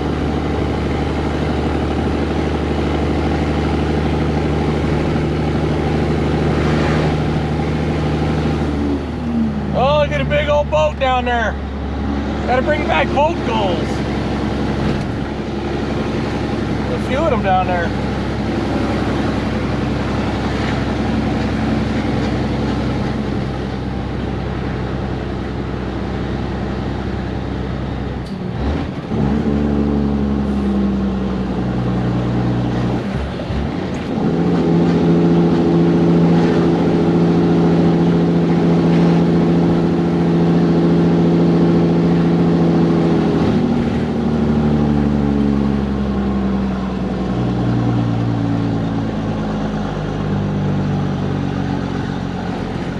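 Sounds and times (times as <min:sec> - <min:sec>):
truck diesel engine pulling: 0:00.0 - 0:52.9.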